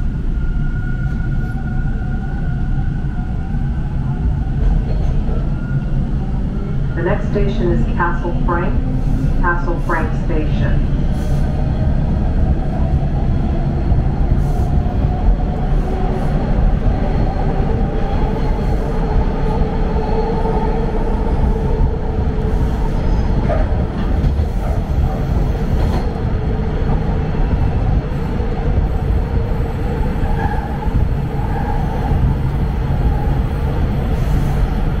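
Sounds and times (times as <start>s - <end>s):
subway car whine: 0.0s - 35.0s
subway wheels rumbling: 0.0s - 35.0s.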